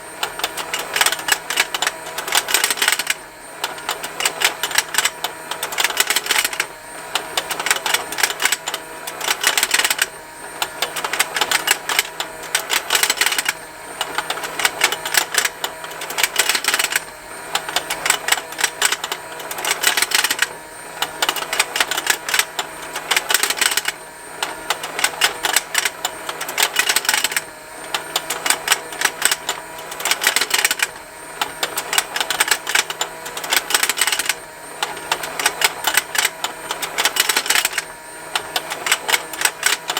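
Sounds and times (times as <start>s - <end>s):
faint motor hum: 0.0s - 39.9s
toy plastic ticking: 0.2s - 39.9s.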